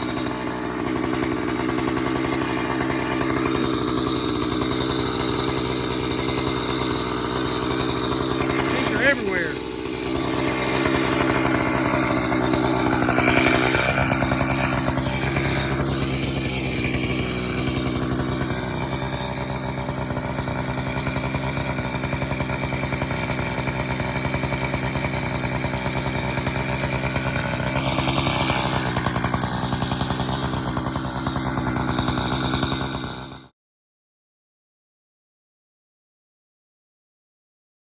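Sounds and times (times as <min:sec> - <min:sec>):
chainsaw running: 0:00.0 - 0:33.5.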